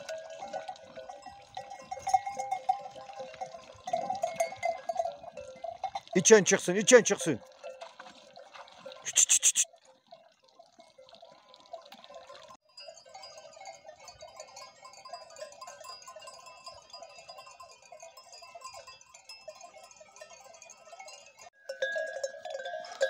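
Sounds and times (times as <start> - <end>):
sheep bells clinking: 0.0 - 8.0, 10.8 - 23.0.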